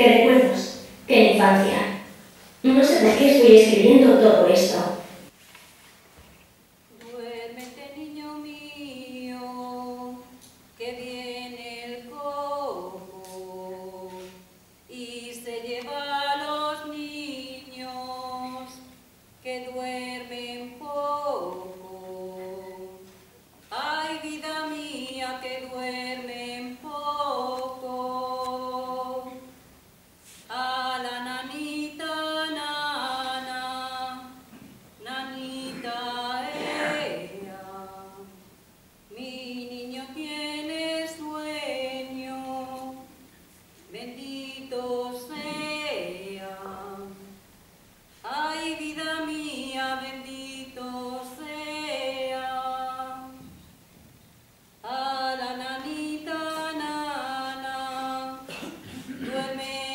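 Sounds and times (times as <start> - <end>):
woman singing a lullaby: 6.9 - 29.5, 30.5 - 38.4, 39.1 - 43.2, 43.9 - 47.4, 48.2 - 53.5, 54.8 - 59.9.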